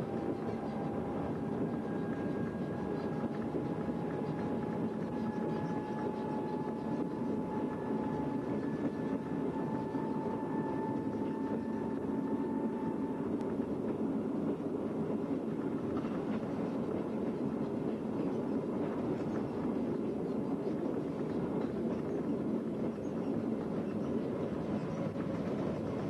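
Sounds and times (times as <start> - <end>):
rail trolley engine and wheel rumble: 0.0 - 26.0.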